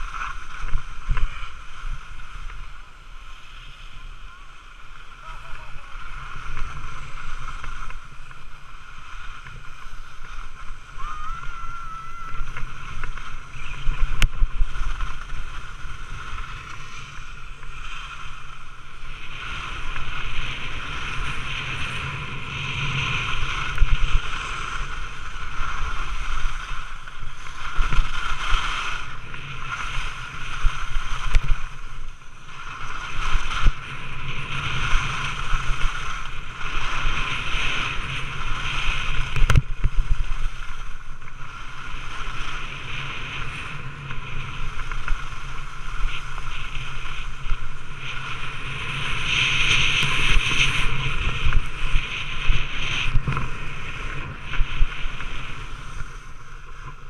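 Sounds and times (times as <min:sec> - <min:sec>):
skis scraping over snow: 0:00.0 - 0:57.0
wind rushing over microphone: 0:00.0 - 0:57.0.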